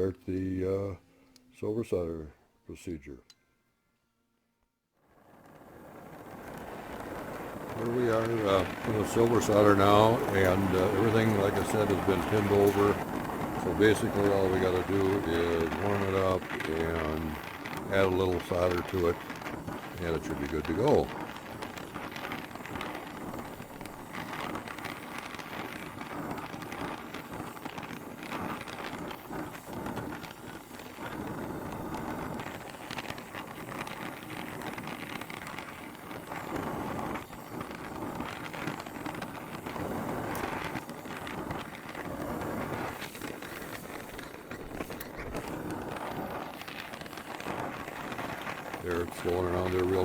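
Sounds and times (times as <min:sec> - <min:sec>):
gas torch flame: 0:05.0 - 0:50.0.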